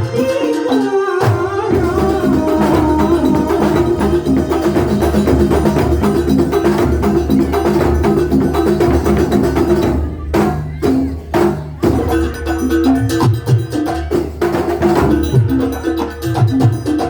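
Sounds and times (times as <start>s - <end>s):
percussion ensemble playing: 0.0s - 17.0s
low drums: 1.2s - 17.0s.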